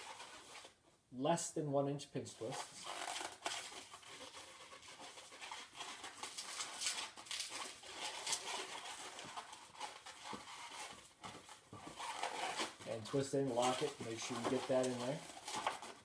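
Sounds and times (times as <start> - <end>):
balloon rubbing and squeaking: 0.0 - 0.8, 2.4 - 16.0.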